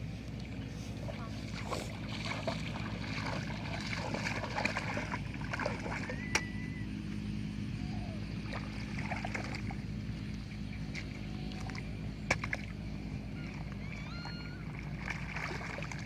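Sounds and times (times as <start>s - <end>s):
water splashes: 0.0s - 6.6s, 7.8s - 16.0s
small boat motor running: 0.0s - 16.0s.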